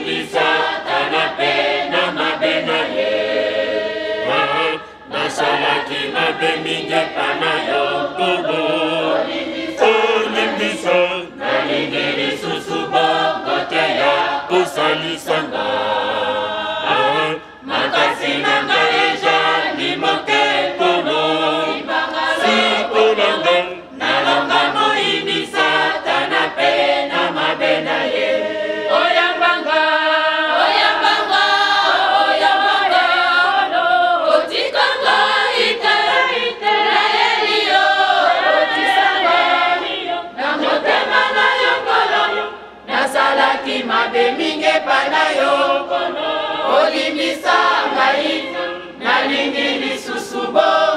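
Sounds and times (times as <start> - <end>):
church choir singing: 0.0 - 50.9.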